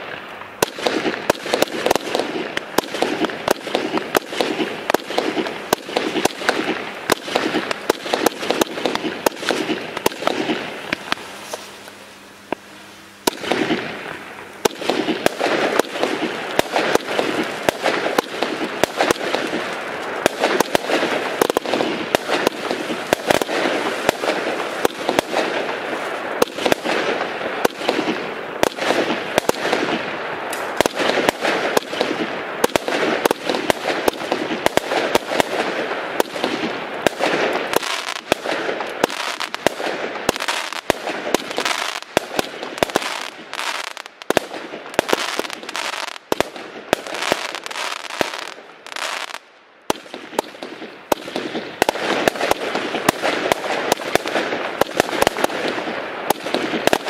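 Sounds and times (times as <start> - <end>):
firework launch shots and bursts: 0.0 - 11.9, 13.2 - 57.0
firework crackling hiss: 0.0 - 57.0
sharp firework cracks: 0.0 - 57.0.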